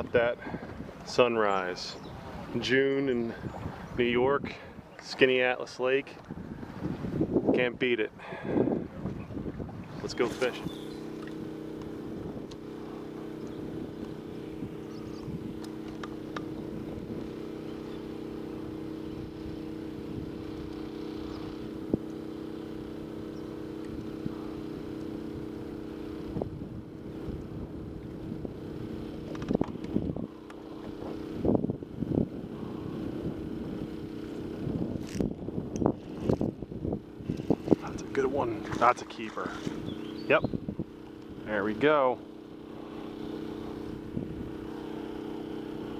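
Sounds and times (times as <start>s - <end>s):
electric trolling motor humming: 0.0s - 45.9s.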